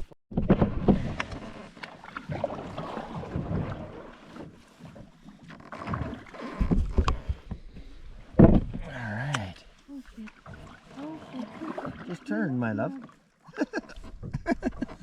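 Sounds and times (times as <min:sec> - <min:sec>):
paddle splashing in water: 0:00.3 - 0:15.0.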